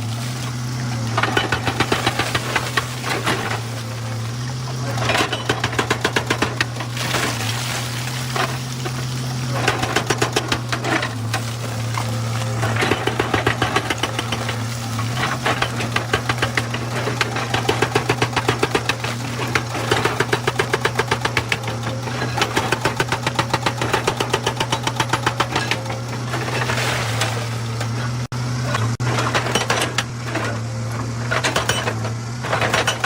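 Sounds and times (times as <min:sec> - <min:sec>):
diesel engine drone: 0:00.0 - 0:33.0
hydraulic breaker hammering stone: 0:00.0 - 0:33.0.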